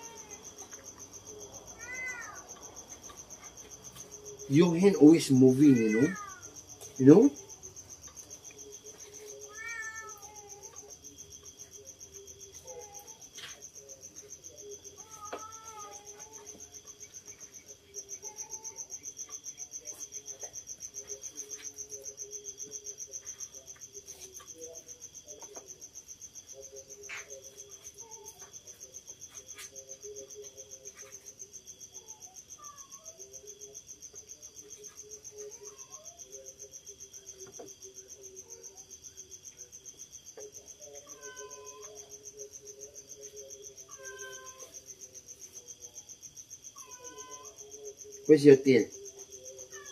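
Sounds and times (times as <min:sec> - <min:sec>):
crickets trilling: 0:00.0 - 0:49.9
lower insect calls: 0:00.0 - 0:49.9.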